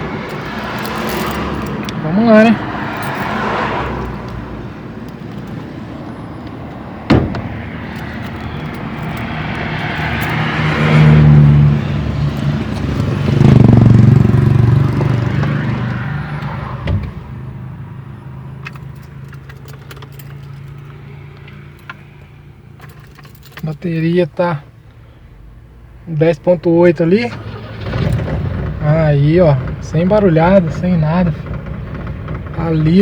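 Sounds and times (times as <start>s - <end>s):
car engine starting and running: 0.0s - 33.0s.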